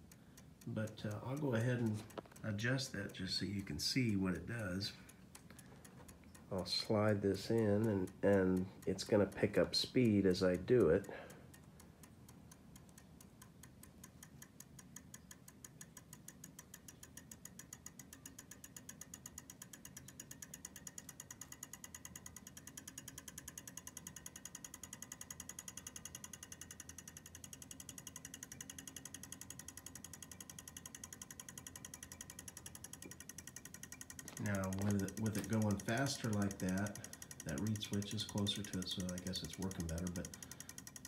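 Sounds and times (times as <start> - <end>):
pulse motor ticking rapidly: 0.0 - 41.0.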